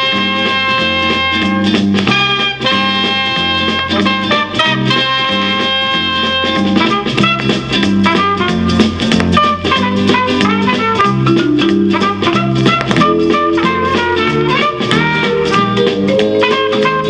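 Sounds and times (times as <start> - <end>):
band music from vinyl record: 0.0 - 17.0.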